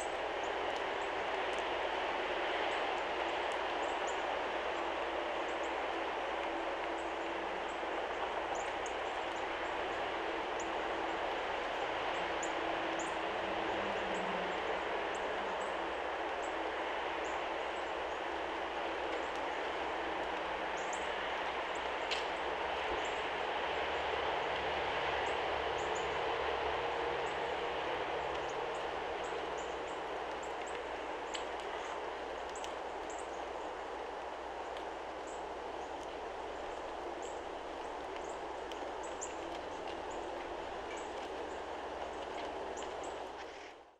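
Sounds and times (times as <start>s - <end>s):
steady rushing noise: 0.0s - 43.9s.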